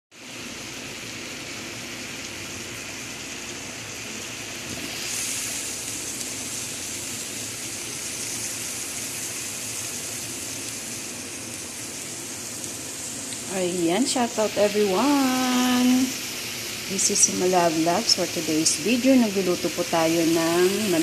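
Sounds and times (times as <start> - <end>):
food sizzling in a frying pan: 0.1 - 21.0.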